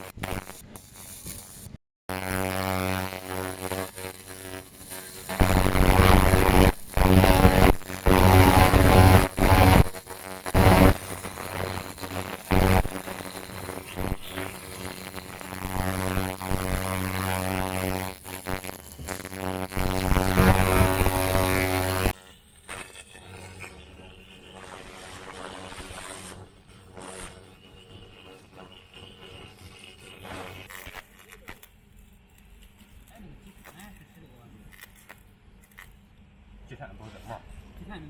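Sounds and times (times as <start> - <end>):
laser cleaning head buzzing: 0.0 - 35.9.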